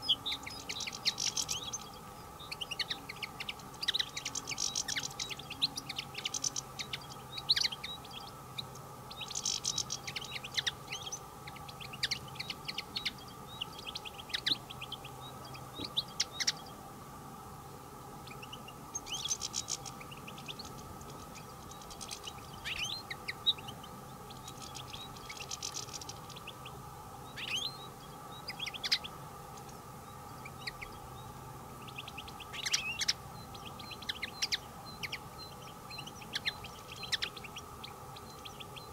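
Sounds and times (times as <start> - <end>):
finches twittering and chirping: 0.0 - 16.9, 18.1 - 38.9.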